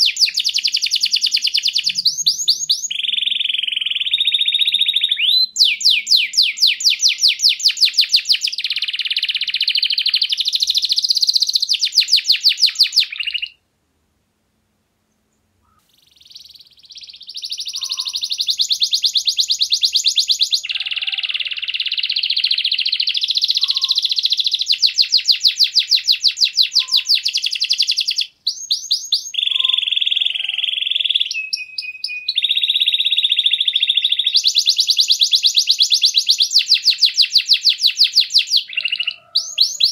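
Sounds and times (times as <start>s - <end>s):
canary singing trills: 0.0s - 13.6s, 15.3s - 39.9s.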